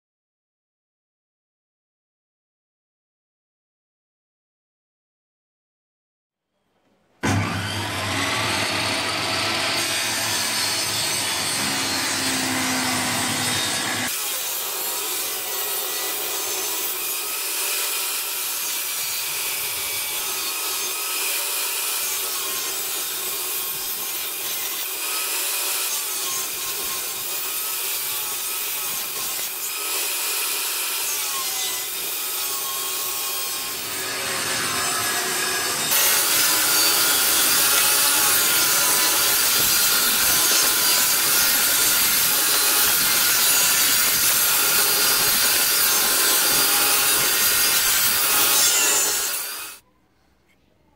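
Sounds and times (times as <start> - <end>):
table saw cutting wood: 7.2 - 49.8.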